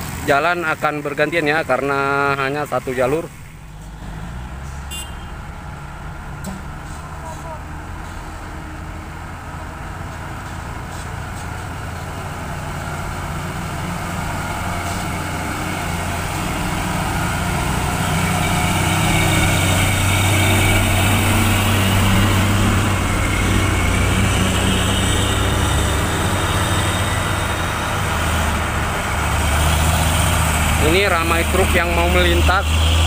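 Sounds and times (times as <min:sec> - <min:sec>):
diesel truck engine passing: 0:00.0 - 0:33.0.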